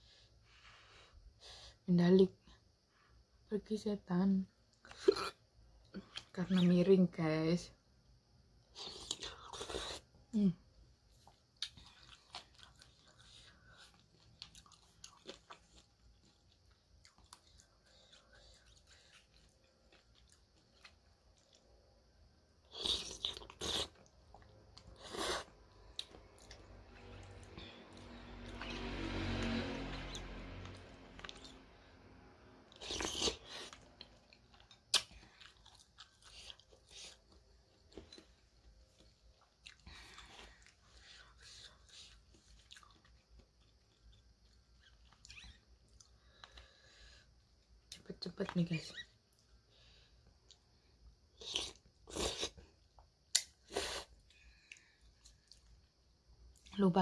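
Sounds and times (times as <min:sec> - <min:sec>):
soft chewing and mouth smacks: 0:04.6 - 0:06.8, 0:08.0 - 0:28.8, 0:30.6 - 0:31.6, 0:32.7 - 0:56.8.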